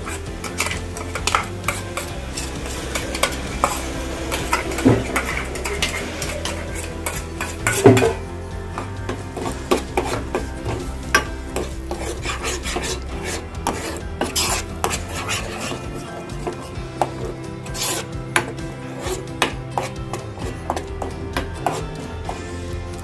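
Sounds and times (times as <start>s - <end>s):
metal spoon scraping a saucepan: 0.0s - 22.6s.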